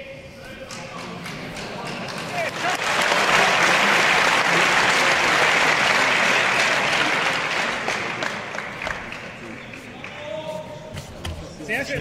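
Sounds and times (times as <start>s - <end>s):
crowd applauding: 0.6s - 10.4s.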